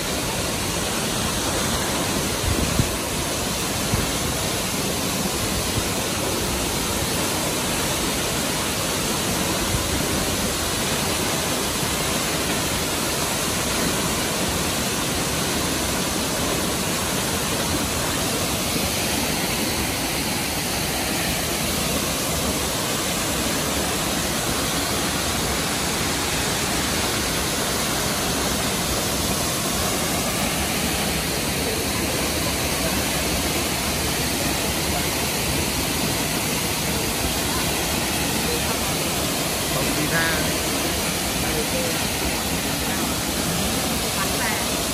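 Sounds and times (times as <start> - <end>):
waterfall rushing onto rocks: 0.0 - 44.9.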